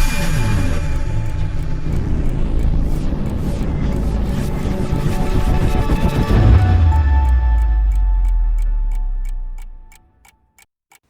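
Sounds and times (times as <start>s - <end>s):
music intro with deep bass: 0.0s - 10.0s
clock ticking: 0.0s - 11.0s.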